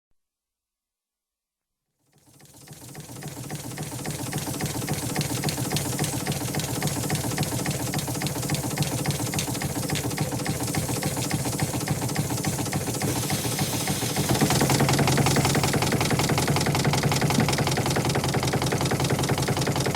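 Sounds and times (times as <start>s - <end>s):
engine running with fast ticking: 2.1s - 19.9s.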